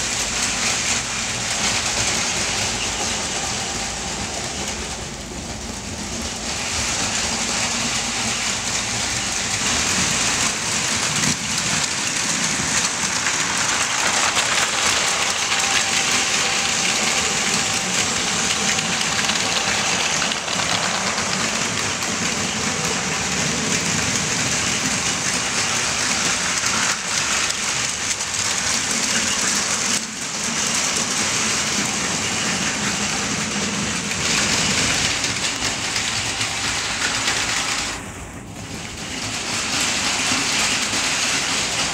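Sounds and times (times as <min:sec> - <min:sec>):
wheels rattling on plastic rails: 0:00.0 - 0:41.9
toy train motors whirring: 0:06.4 - 0:38.0, 0:39.1 - 0:41.9.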